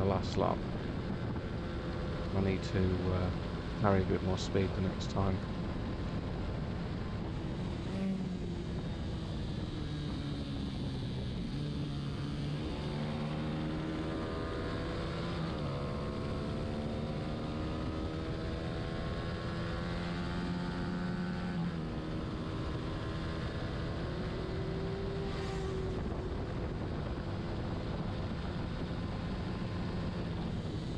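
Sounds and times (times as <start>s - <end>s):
racing motorcycle engine accelerating: 5.6s - 30.9s.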